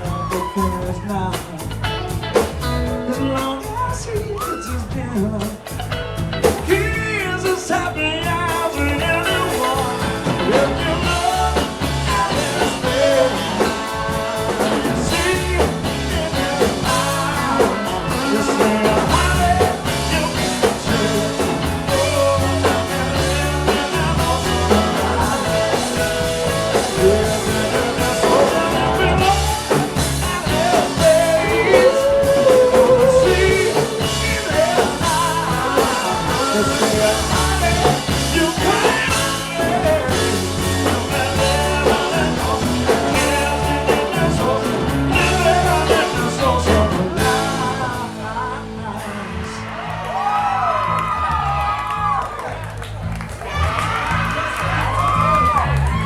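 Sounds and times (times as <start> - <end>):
blues-rock band playing: 0.0 - 56.0.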